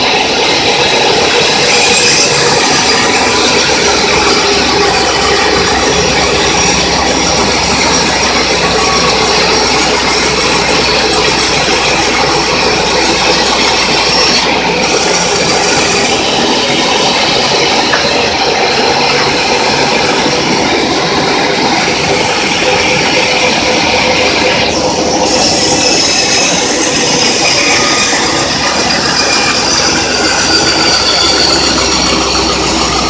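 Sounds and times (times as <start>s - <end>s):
sawmill cutting wood: 0.0s - 33.0s.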